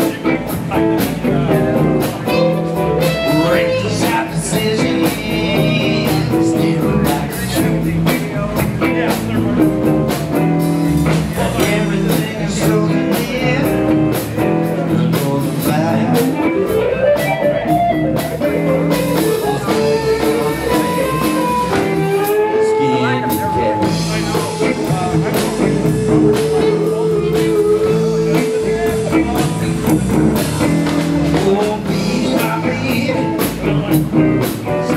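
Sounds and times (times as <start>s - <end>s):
drum kit: 0.0s - 34.9s
electric bass: 0.0s - 34.9s
electric guitar: 0.0s - 34.9s.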